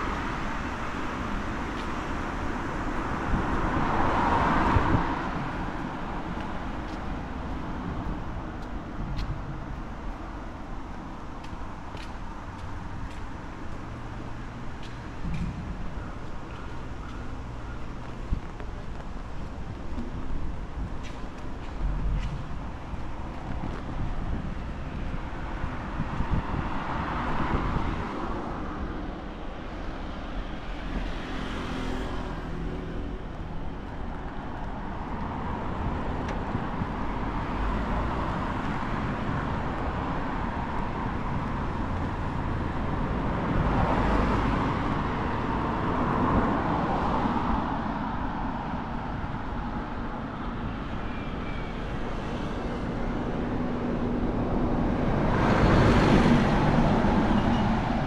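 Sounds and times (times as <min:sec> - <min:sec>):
cars passing: 0:00.0 - 0:58.0
steady traffic hum: 0:00.0 - 0:58.0.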